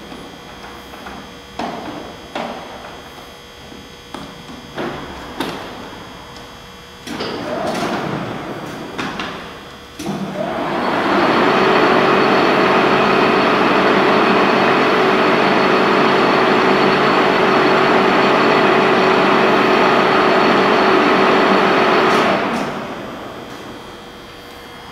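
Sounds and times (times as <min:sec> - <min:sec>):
machine drive humming and whirring: 0:00.0 - 0:24.9.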